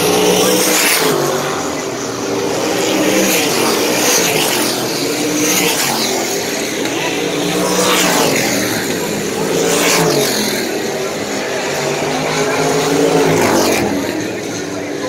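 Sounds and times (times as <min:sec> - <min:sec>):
race car engines roaring past: 0:00.0 - 0:15.0.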